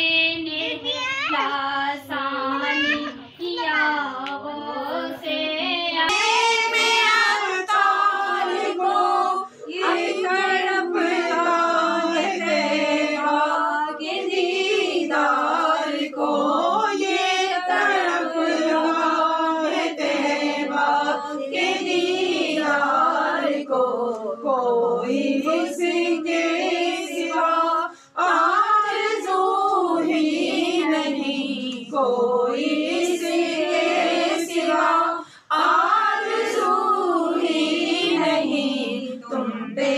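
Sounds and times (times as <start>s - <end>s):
women and girls singing unaccompanied: 0.0s - 39.9s.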